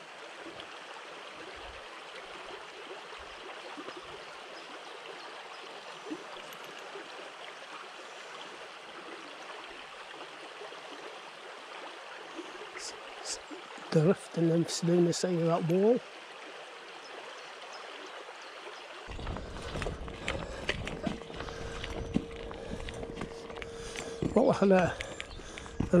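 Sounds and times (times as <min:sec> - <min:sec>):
stream burbling over stones: 0:00.0 - 0:26.0.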